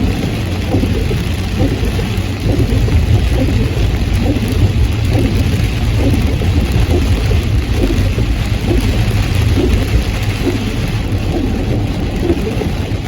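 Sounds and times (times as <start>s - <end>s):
heavy rain on a car: 0.0s - 13.0s
road and engine rumble: 0.0s - 13.0s.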